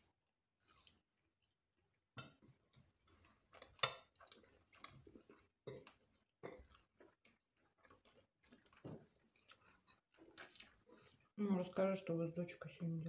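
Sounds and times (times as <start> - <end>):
people chewing food: 0.0 - 11.9.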